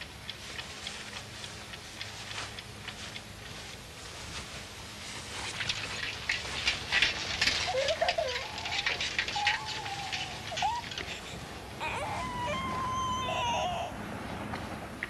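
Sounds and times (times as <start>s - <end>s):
clicks and rustles: 0.0s - 12.8s.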